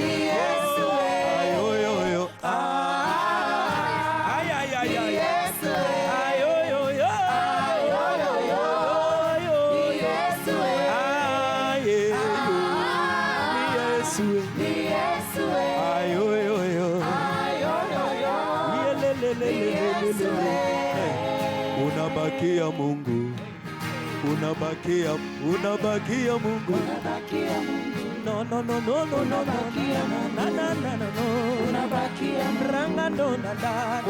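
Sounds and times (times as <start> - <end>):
vocal group singing in harmony: 0.0 - 34.0.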